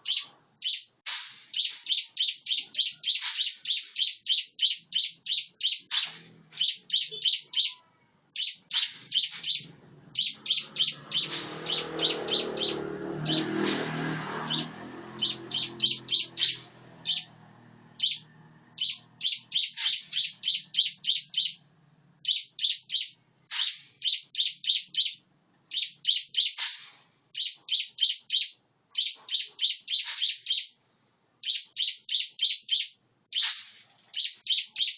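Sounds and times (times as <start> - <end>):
small bird singing rapid notes: 0.0 - 26.7, 27.3 - 30.8, 31.4 - 34.9.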